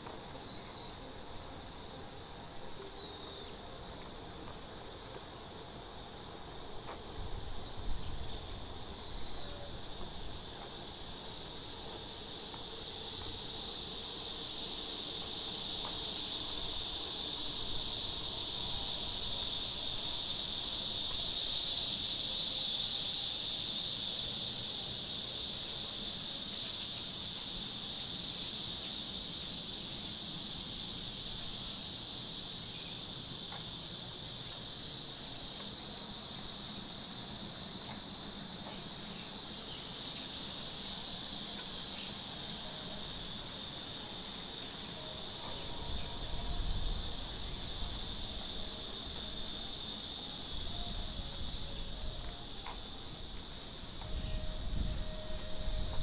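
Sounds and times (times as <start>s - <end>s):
cicadas singing: 0.0s - 56.0s.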